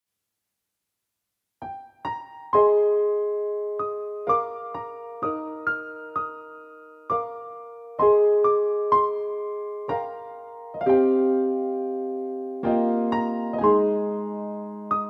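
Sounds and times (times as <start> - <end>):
slow soft piano music: 1.6 - 15.0.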